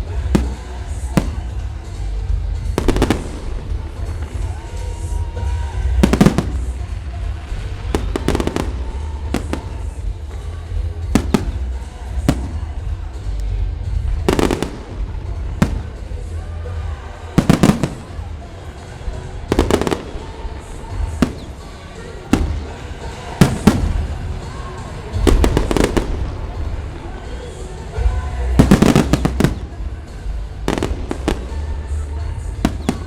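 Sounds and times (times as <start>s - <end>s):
fireworks bursting with loud bangs: 0.0s - 33.0s.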